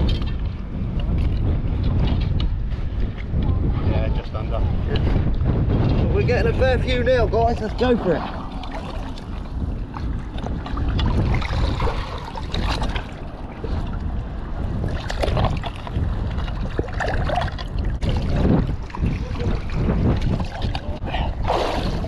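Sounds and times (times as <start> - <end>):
water splashing and sloshing: 0.0 - 3.3, 7.1 - 22.0
wind rumbling on microphone: 0.0 - 22.0.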